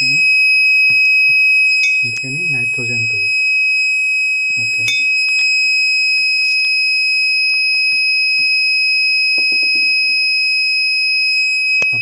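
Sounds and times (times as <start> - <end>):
high-pitched alarm buzzer: 0.0 - 12.0.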